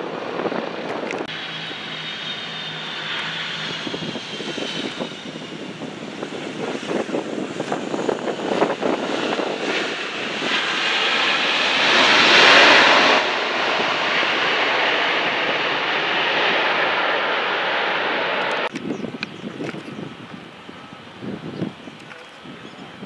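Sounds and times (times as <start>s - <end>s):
airplane engines passing: 0.0s - 23.0s.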